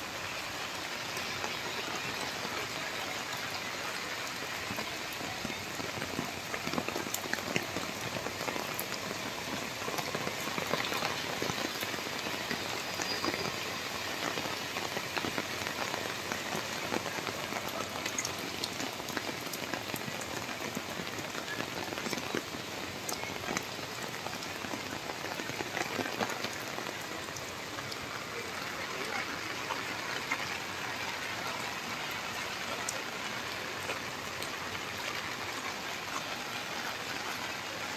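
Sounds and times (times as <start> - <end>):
raindrops ticking on hard surfaces: 0.0 - 37.9
steady rain hiss: 0.0 - 37.9.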